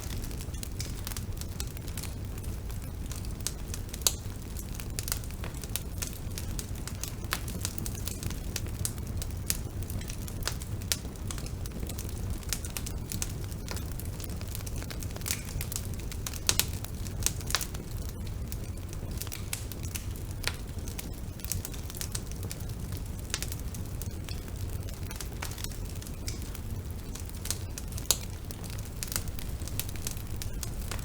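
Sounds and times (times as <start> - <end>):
bonfire rumbling: 0.0 - 31.0
burning wood crackling and popping: 0.0 - 31.0.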